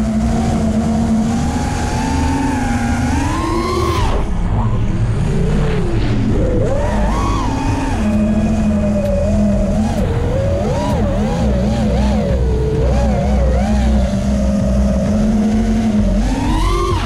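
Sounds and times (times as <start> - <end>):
drone motors whining: 0.0 - 17.0
low rushing noise: 0.0 - 17.0.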